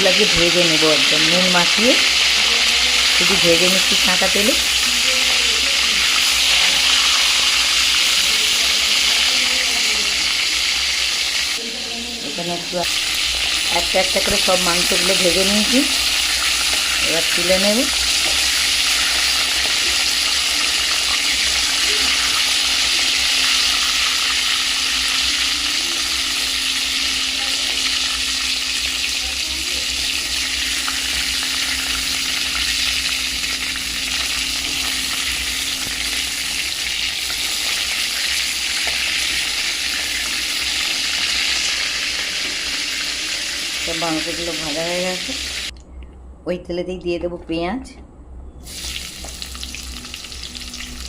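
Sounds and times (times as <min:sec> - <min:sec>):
chicken deep-frying in oil: 0:00.0 - 0:45.7, 0:48.6 - 0:51.0.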